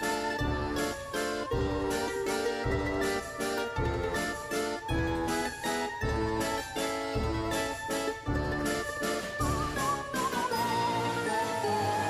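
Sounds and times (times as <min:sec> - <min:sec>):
light keyboard tune with beat: 0:00.0 - 0:12.0.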